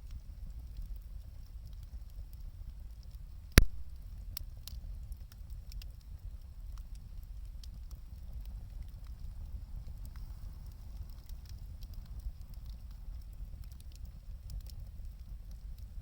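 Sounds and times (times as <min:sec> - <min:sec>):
sharp crack of fire: 0:00.0 - 0:16.0
wood fire crackling: 0:00.0 - 0:16.0.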